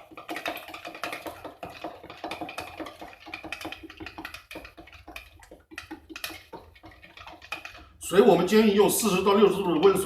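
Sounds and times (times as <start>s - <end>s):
utensil scraping against a bowl: 0.0s - 9.2s.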